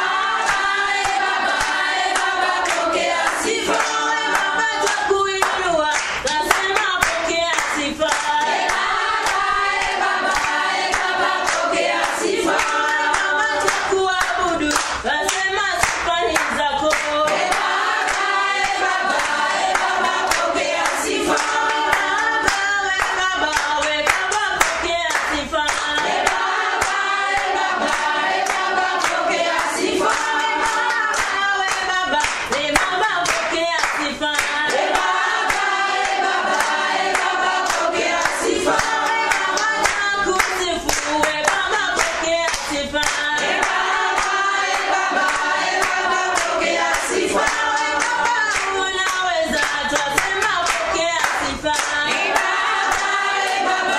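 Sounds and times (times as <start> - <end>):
choir singing: 0.0 - 53.9
rhythmic hand clapping: 0.0 - 53.9.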